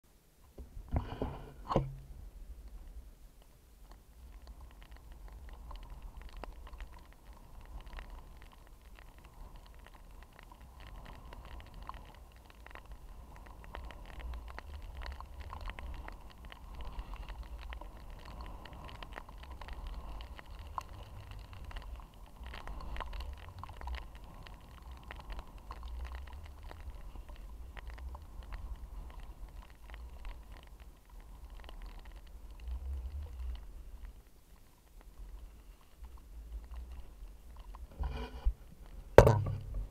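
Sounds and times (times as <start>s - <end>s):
small irregular clicks: 0.4s - 39.9s
wind rumbling on microphone: 4.2s - 34.3s, 35.0s - 39.9s.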